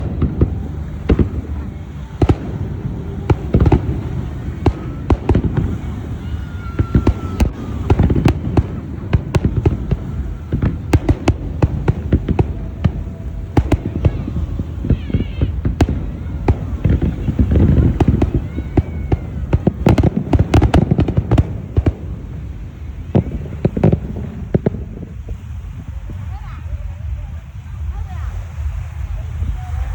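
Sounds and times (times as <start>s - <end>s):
distant fireworks rumble: 0.0s - 29.9s
fireworks bangs: 0.0s - 29.9s.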